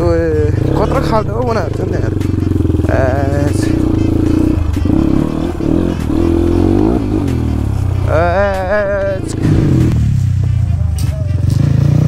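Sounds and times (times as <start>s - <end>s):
dirt bike engine revving: 0.0s - 10.8s.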